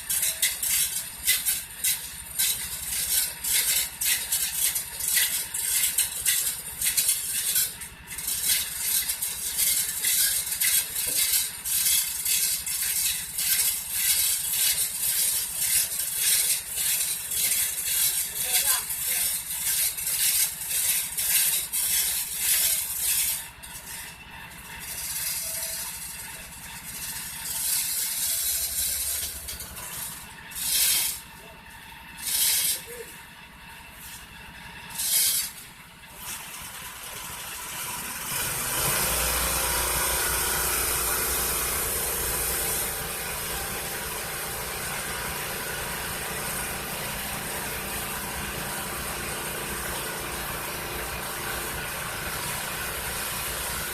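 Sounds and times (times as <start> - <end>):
small engine running: 0.0 - 53.9.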